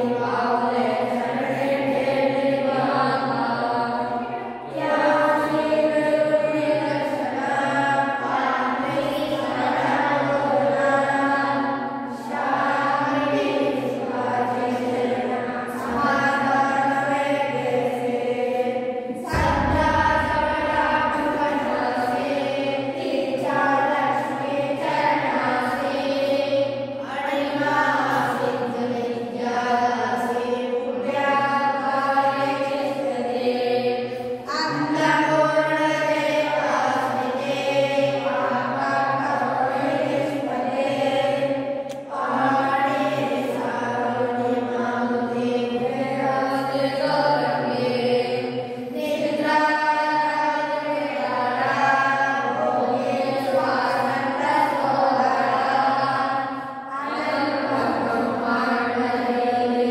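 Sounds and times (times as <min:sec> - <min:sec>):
boys chanting a prayer: 0:00.0 - 0:59.9.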